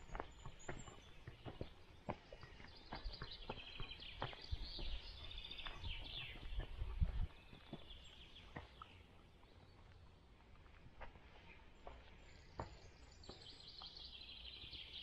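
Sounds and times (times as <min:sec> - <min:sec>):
small birds singing: 0:00.0 - 0:15.0.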